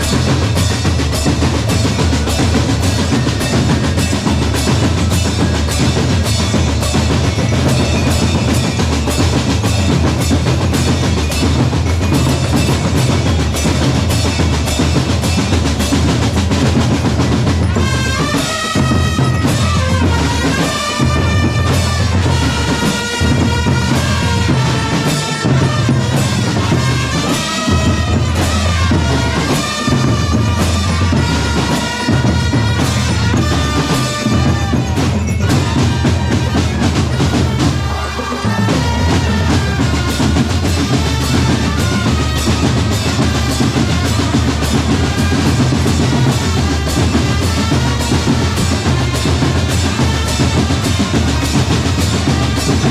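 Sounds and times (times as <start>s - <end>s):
melody over drums: 0.0s - 52.9s
snare and bass drums: 0.0s - 52.9s.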